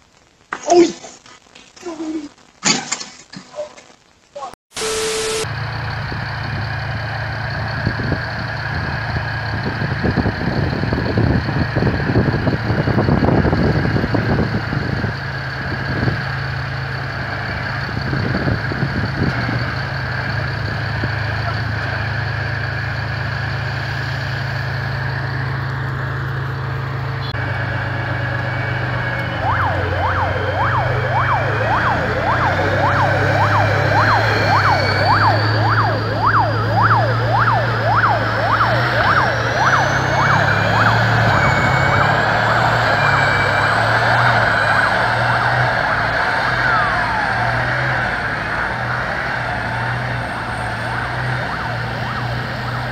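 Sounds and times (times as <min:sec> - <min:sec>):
emergency siren: 0:04.7 - 0:52.9
heavy vehicle engines running: 0:05.0 - 0:52.9.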